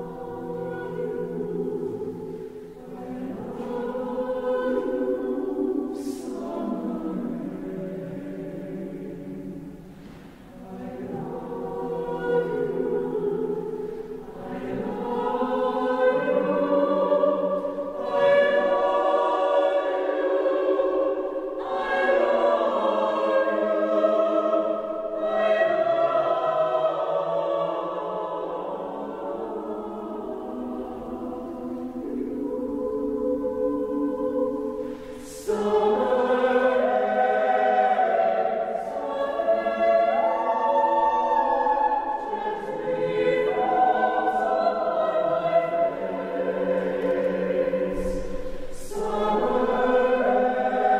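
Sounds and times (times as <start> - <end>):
choir singing sustained chords: 0.0 - 50.9.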